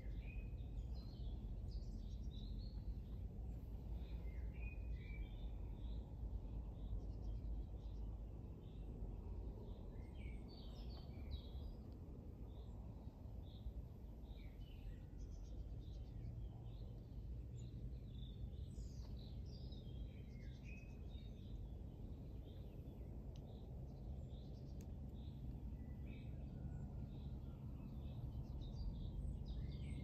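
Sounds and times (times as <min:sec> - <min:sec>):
low outdoor rumble: 0:00.0 - 0:30.0
songbirds chirping: 0:00.0 - 0:30.0.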